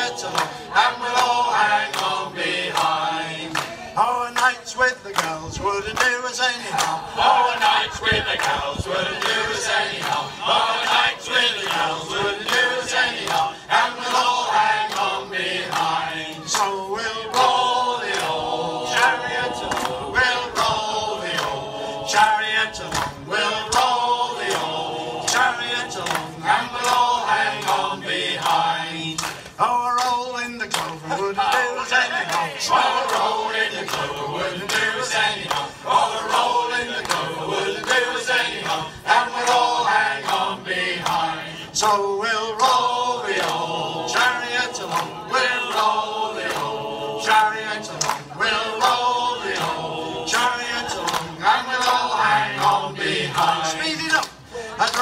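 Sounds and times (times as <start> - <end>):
choir singing a sea shanty: 0.0 - 55.0.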